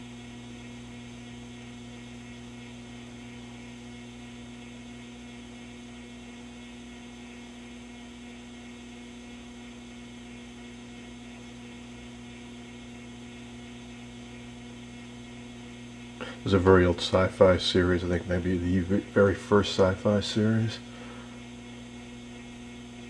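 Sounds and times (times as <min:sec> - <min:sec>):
television electrical hum: 0:00.0 - 0:23.0.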